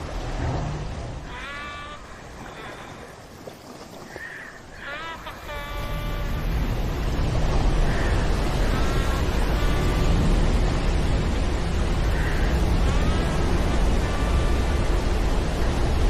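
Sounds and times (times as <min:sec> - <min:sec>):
heavy storm noise: 0:00.0 - 0:16.0.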